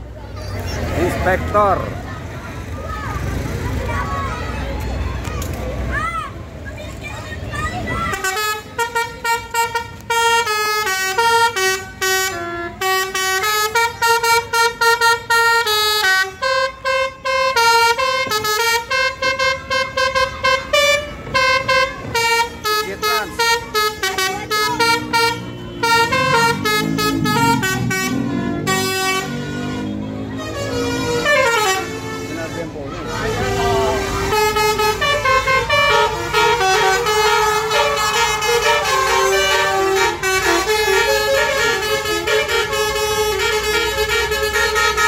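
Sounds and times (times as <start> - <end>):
musical horn playing a tune: 8.1 - 45.0.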